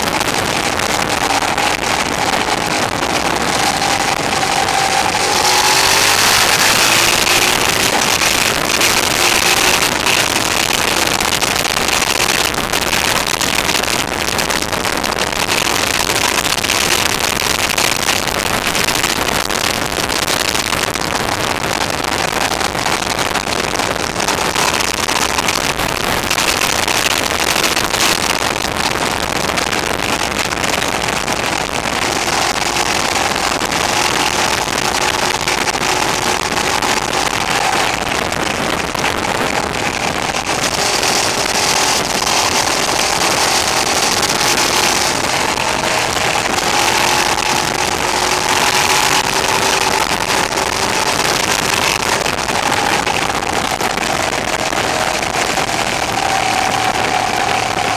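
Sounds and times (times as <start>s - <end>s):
motorcycle engine: 0.0s - 57.9s
wind and road noise: 0.0s - 57.9s.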